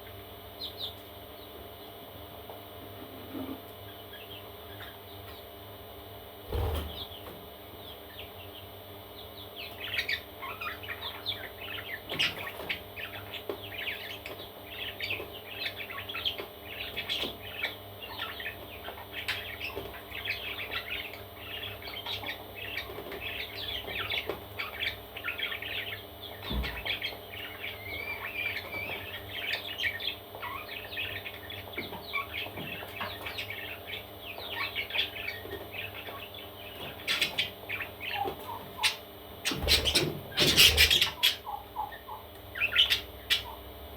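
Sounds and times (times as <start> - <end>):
parrot chicks chirping: 0.0 - 2.1, 2.8 - 5.6, 6.5 - 43.9.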